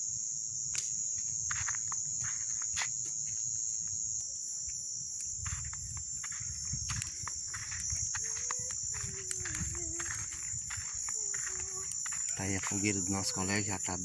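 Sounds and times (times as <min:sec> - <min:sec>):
crickets singing: 0:00.0 - 0:14.0.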